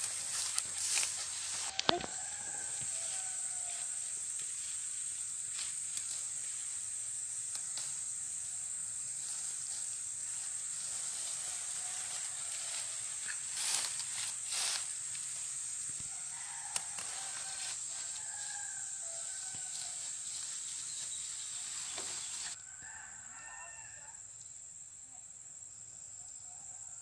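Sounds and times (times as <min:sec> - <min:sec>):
insects hissing: 0:00.0 - 0:26.9.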